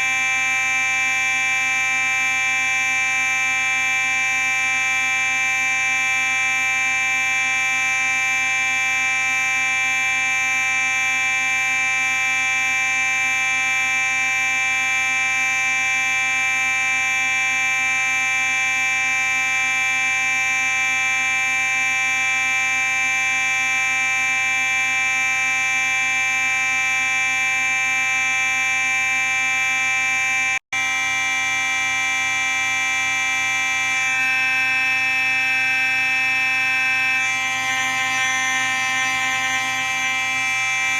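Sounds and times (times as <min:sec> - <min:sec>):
fire alarm steady tone: 0:00.0 - 0:40.9.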